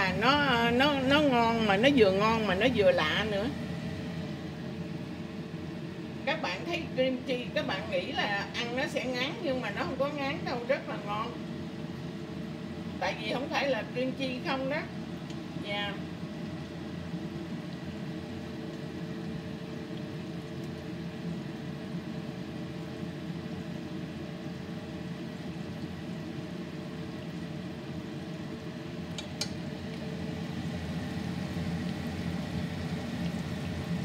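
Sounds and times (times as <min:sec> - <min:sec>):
food sizzling in hot oil: 0:00.0 - 0:34.0
low hum: 0:00.0 - 0:34.0.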